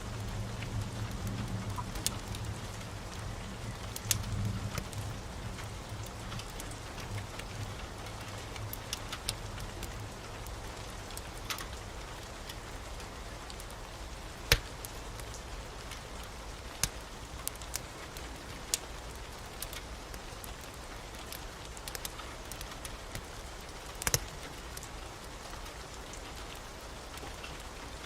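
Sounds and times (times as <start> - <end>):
heavy rain: 0.0 - 28.0
wood fire crackling and popping: 0.2 - 13.8, 14.4 - 24.9.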